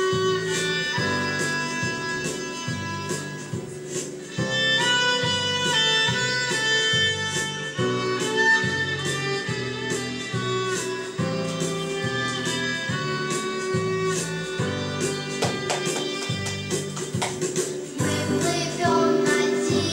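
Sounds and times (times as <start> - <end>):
instrumental music with violin melody: 0.0 - 19.9.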